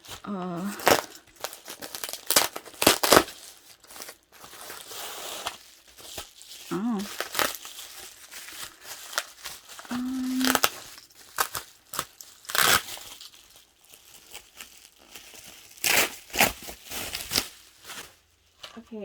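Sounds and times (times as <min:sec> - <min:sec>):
packaging crinkling and tearing: 0:00.0 - 0:18.7.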